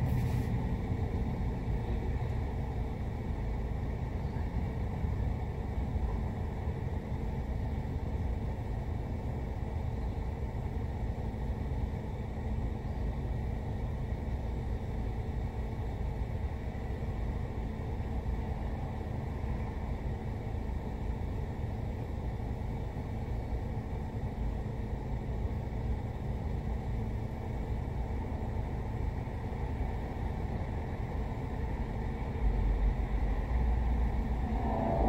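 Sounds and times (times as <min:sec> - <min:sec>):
car idling rumble: 0:00.0 - 0:34.8.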